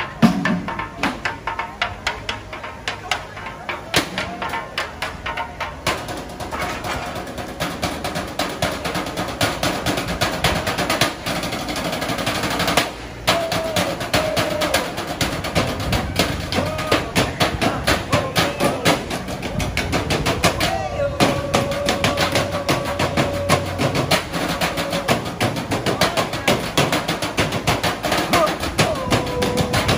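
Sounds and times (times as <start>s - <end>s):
drum group playing fast rhythm: 0.0s - 29.9s.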